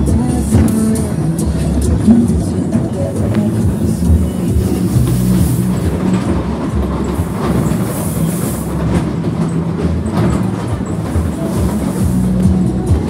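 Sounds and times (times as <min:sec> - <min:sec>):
ride car rumbling on track: 0:00.0 - 0:13.0
wheels rattling and clattering: 0:00.0 - 0:13.0.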